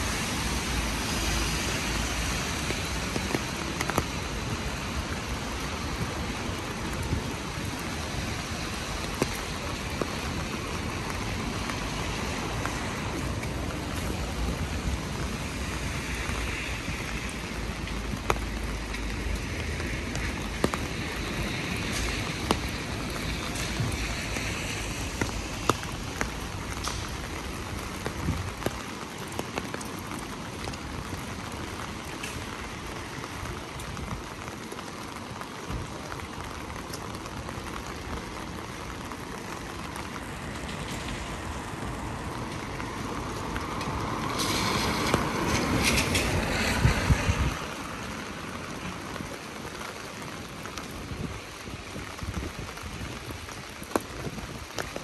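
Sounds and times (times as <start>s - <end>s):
rain on wet street: 0.0s - 55.0s
raindrops ticking: 0.0s - 55.0s
traffic on wet road: 0.0s - 55.0s.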